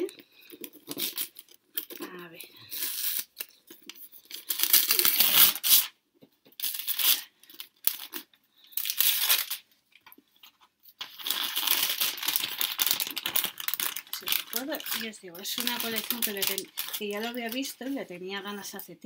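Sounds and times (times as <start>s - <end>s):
wrapping paper tearing and crinkling: 0.0s - 6.0s, 6.6s - 9.7s, 10.9s - 18.1s.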